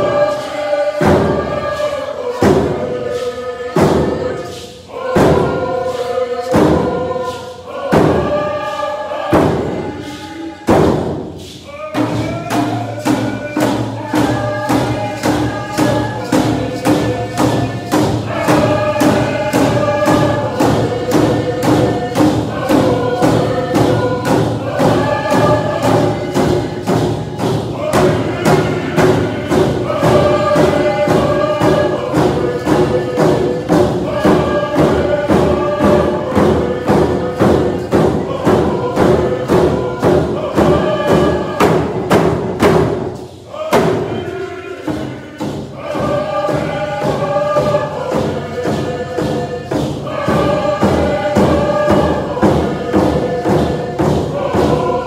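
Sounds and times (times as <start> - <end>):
group singing in unison: 0.0 - 55.0
hand drums in steady beat: 0.0 - 55.0.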